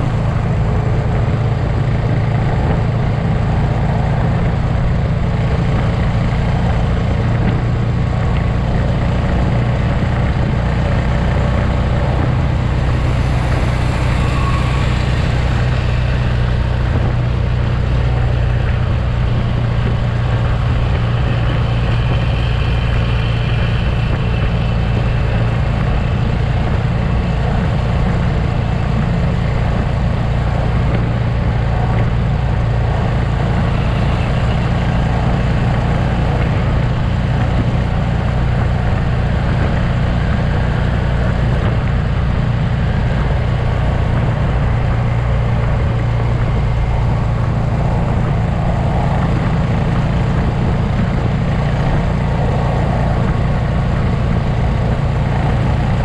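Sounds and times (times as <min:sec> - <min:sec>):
motorcycle engine running: 0:00.0 - 0:56.0
wind noise: 0:00.0 - 0:56.0.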